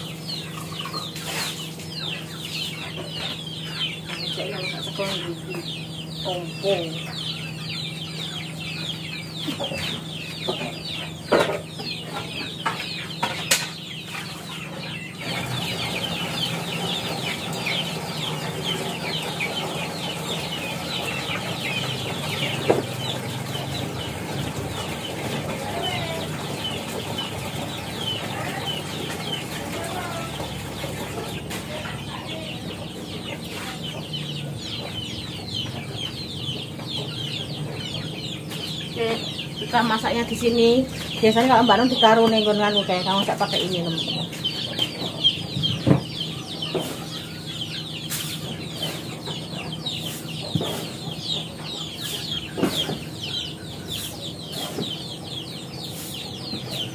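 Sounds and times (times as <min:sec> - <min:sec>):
chickens clucking: 0:00.0 - 0:56.9
chicks peeping: 0:00.0 - 0:56.9.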